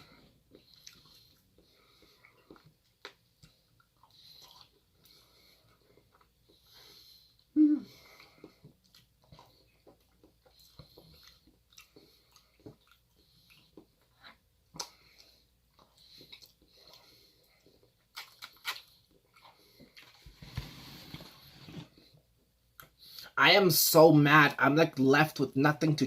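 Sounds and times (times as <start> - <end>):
person chewing food: 0.0 - 20.6, 22.0 - 23.3.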